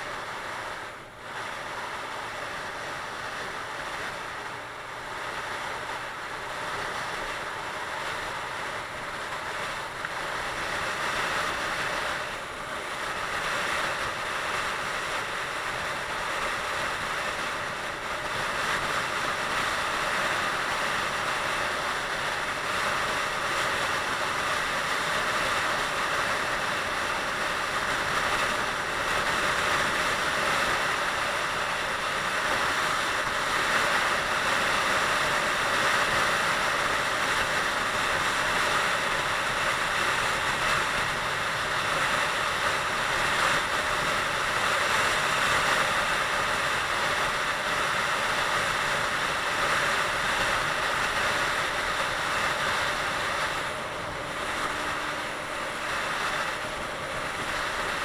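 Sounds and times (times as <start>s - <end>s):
motorcycle engine drone: 0.0s - 58.0s.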